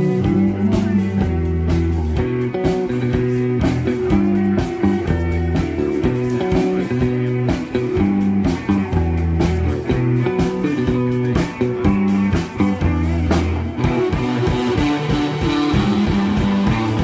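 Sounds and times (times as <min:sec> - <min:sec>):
guitar chords: 0:00.0 - 0:17.0
held bass notes: 0:00.0 - 0:17.0.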